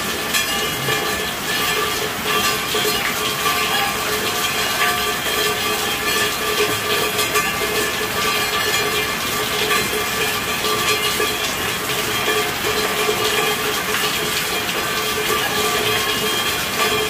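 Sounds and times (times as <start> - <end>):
rainfall hiss: 0.0 - 17.0.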